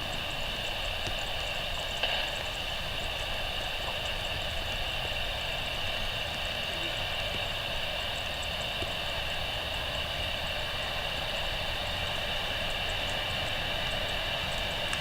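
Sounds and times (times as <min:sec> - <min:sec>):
faint ticks of raindrops: 0:00.0 - 0:15.0
heavy rain hissing: 0:00.0 - 0:15.0.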